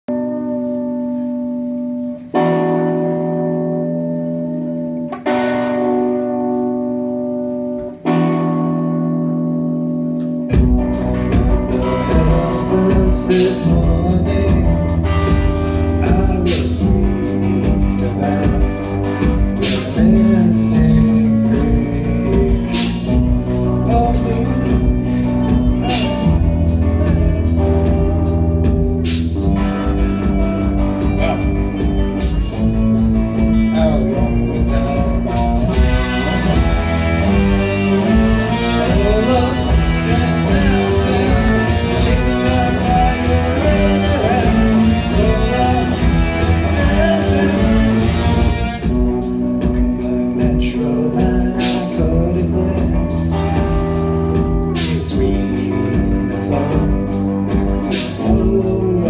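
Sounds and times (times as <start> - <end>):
electric guitar chords ringing: 0.0 - 59.0
steady drum beat: 10.5 - 59.0.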